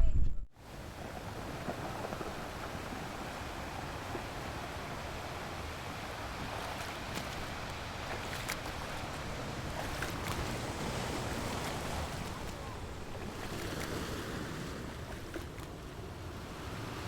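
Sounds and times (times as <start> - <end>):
wind buffeting microphone: 0.0 - 17.0
wind and water rushing: 0.6 - 17.0.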